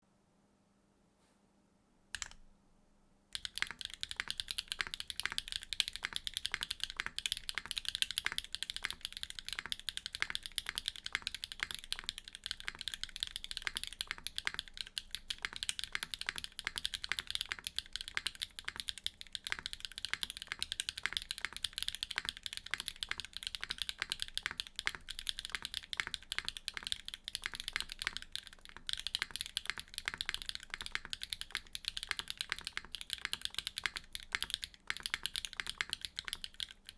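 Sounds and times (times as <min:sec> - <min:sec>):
mechanical keyboard typing: 0:02.2 - 0:02.4, 0:03.3 - 0:36.9.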